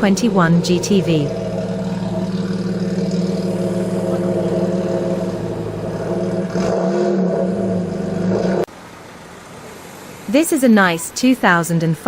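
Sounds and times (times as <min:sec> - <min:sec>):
car engine running: 0:00.0 - 0:10.3.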